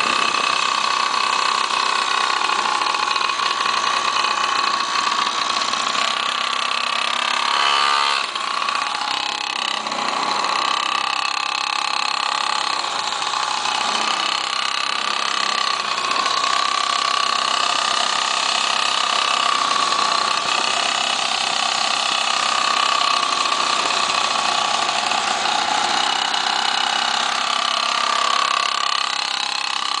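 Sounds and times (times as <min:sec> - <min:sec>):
small engine high-pitched buzz: 0:00.0 - 0:30.0.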